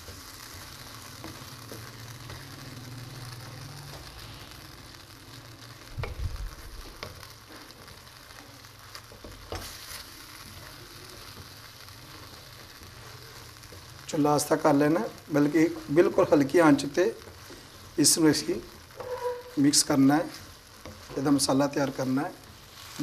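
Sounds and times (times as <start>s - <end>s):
food sizzling in a pan: 0.0s - 23.0s
spatula stirring and scraping: 0.0s - 23.0s.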